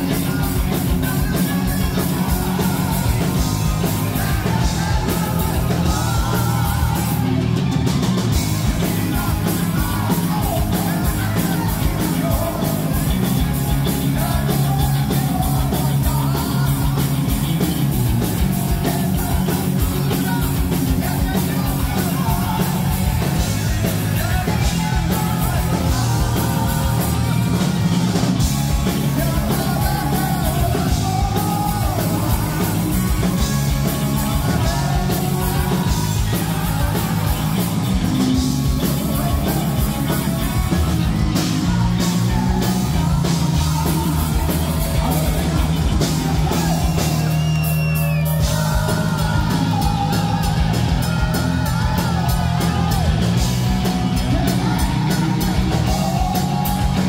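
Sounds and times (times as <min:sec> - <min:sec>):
man singing: 0:00.0 - 0:07.6, 0:08.4 - 0:57.0
distorted electric guitar: 0:00.0 - 0:57.0
heavy metal band playing live: 0:00.0 - 0:57.0
steady drum beat: 0:00.0 - 0:57.0.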